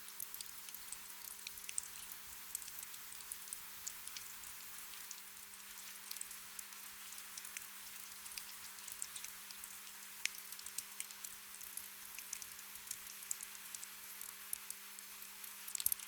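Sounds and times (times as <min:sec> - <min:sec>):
gentle rain: 0:00.0 - 0:16.0.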